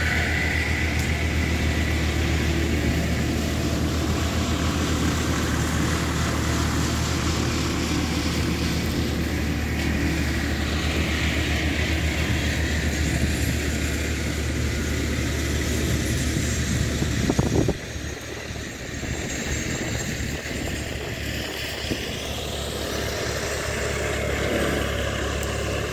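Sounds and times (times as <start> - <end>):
rush of noise: 0.0 - 25.9
walking tractor engine running: 0.0 - 25.9.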